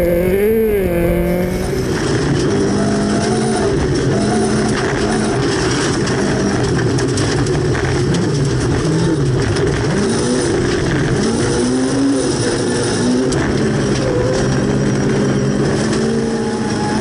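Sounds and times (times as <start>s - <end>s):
car engine running hard: 0.0s - 17.0s
gravel and road noise: 0.0s - 17.0s.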